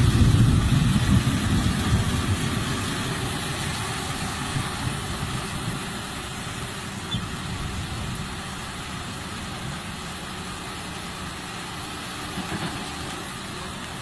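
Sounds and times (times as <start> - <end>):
excavator diesel engine running: 0.0 - 14.0
fast-flowing floodwater: 0.0 - 14.0.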